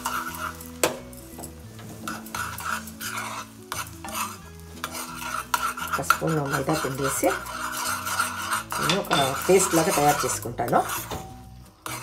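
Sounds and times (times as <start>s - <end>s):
butter and oil sizzling: 0.0s - 12.0s
metal spoon scraping pan: 0.0s - 12.0s.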